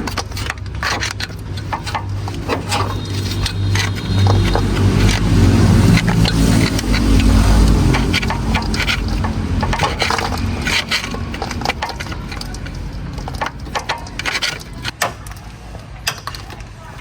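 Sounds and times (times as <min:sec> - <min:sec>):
knocks and clatters: 0:00.0 - 0:17.0.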